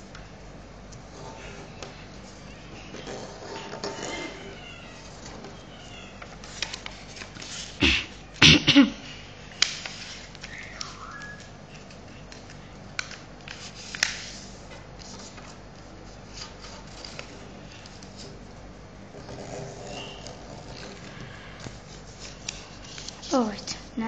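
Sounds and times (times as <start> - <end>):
paper rustling and crinkling: 1.1 - 8.2, 9.6 - 18.5, 19.2 - 23.8.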